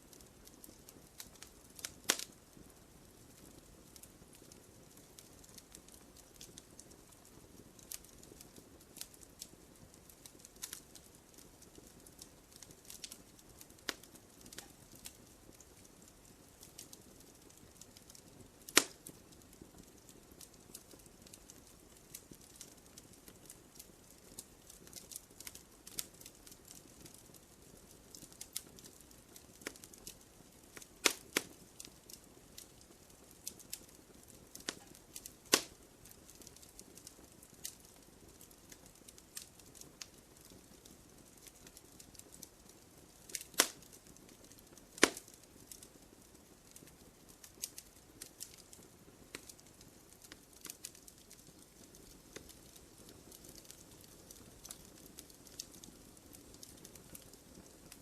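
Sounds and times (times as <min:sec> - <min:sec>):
faint fire hiss: 0:00.0 - 0:58.0
wood fire crackling: 0:00.0 - 0:58.0.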